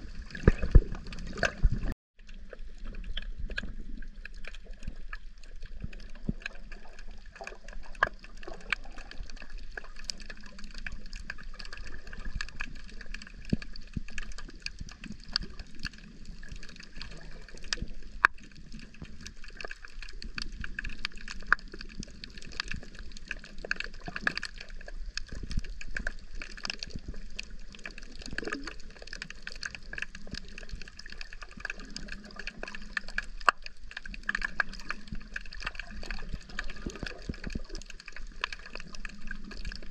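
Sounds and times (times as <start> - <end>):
small clicks crackling underwater: 0.0 - 39.9
underwater water noise: 0.0 - 39.9.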